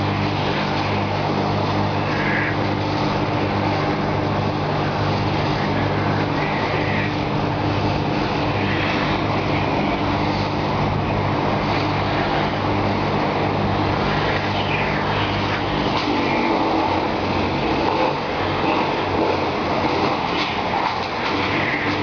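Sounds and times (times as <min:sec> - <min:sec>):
engine running steadily: 0:00.0 - 0:22.0
street traffic: 0:00.0 - 0:22.0.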